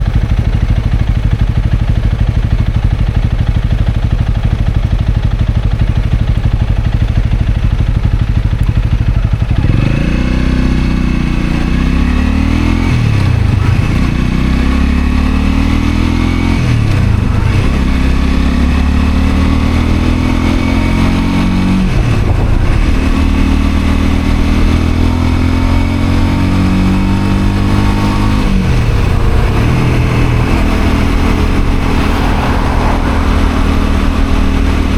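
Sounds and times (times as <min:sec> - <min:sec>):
motorcycle engine idling: 0:00.0 - 0:20.8, 0:21.8 - 0:34.9
motorcycle accelerating through gears: 0:00.0 - 0:34.9.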